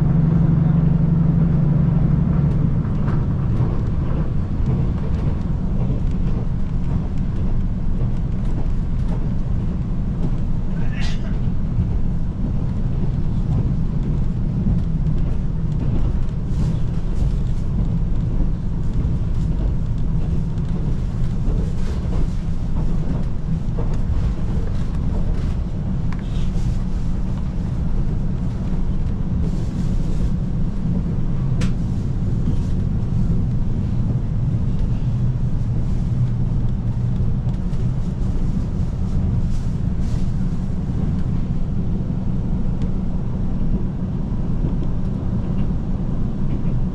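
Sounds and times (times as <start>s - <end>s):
diesel train running: 0.0s - 46.9s.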